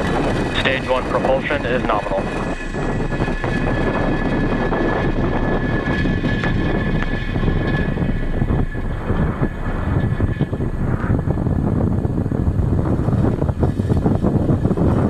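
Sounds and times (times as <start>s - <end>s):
rocket engines rumbling and crackling: 0.0s - 15.0s.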